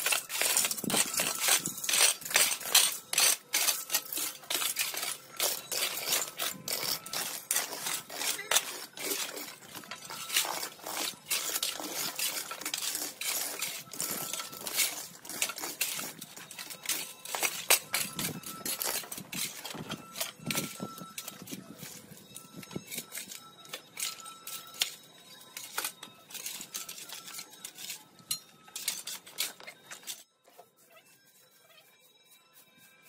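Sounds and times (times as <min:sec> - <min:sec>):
rakes scraping across dirt: 0:00.0 - 0:33.0.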